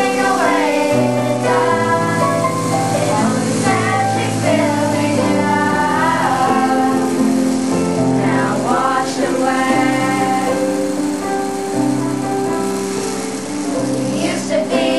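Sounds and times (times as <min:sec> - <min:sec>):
people singing: 0:00.0 - 0:11.6, 0:14.0 - 0:14.9
held instrument chords: 0:00.0 - 0:14.9.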